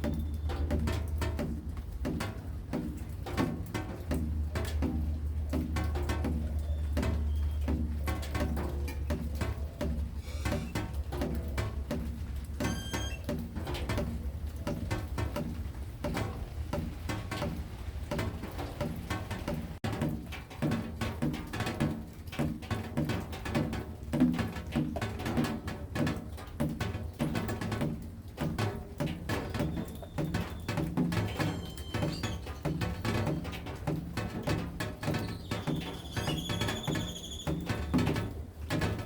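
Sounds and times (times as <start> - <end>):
rain pattering and dripping: 0.0 - 39.0.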